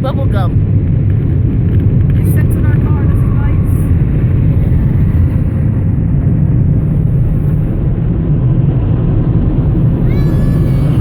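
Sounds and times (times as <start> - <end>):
car wash blower dryers roaring: 2.0 - 11.0.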